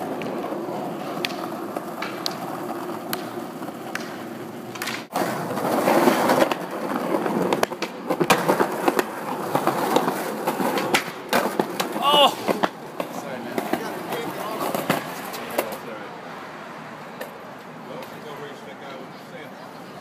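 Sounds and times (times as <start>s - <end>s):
skateboard clacking on ground: 0.0s - 15.9s, 17.1s - 18.3s
skateboard wheels rolling on concrete: 0.0s - 20.0s.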